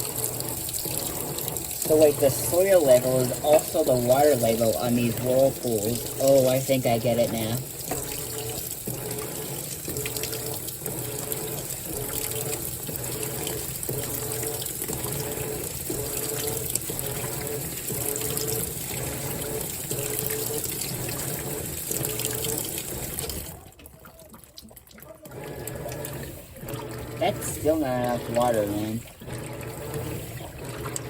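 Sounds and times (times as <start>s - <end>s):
washer agitator strokes: 0.0s - 31.0s
washing machine filling with water: 0.0s - 31.0s.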